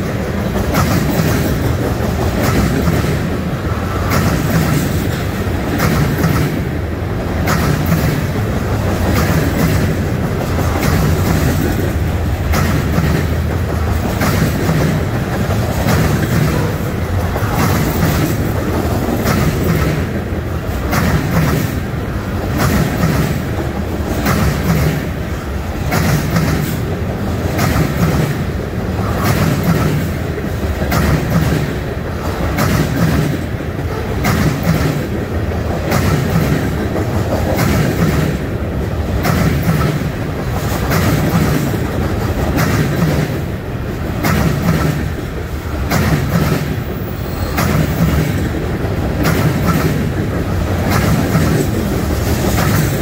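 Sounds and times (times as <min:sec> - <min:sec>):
train wheels clickety-clack on rail: 0:00.0 - 0:53.0.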